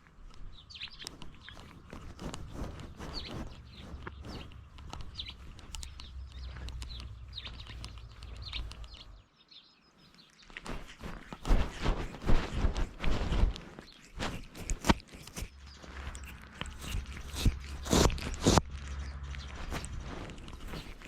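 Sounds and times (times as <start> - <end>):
rustling scraping noise: 0.0 - 9.1, 10.4 - 21.0
small birds chirping: 0.0 - 21.0.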